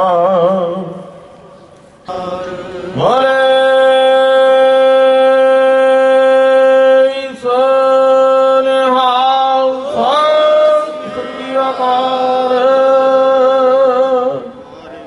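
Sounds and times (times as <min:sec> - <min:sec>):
man singing devotional melody: 0:00.0 - 0:01.3, 0:02.1 - 0:15.0.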